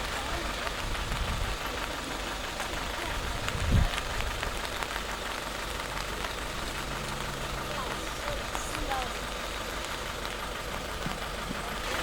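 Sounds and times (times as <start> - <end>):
drops ticking on surfaces: 0.0 - 12.0
rain falling: 0.0 - 12.0.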